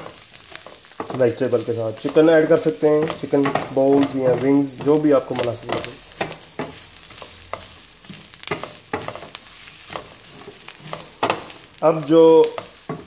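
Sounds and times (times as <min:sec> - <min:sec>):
food sizzling in a frying pan: 0:00.0 - 0:13.0
spatula scraping a pan: 0:00.0 - 0:13.0.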